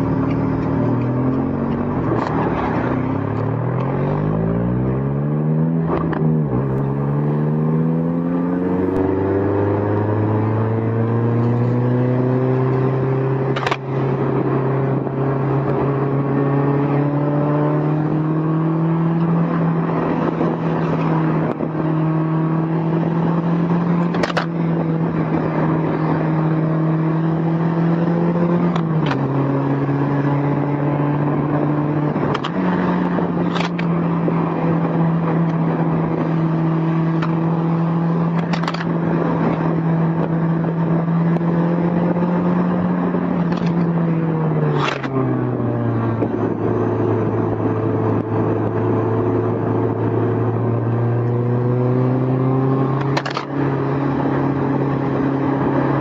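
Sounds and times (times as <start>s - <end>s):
car engine running: 0.0s - 11.8s, 17.9s - 56.0s.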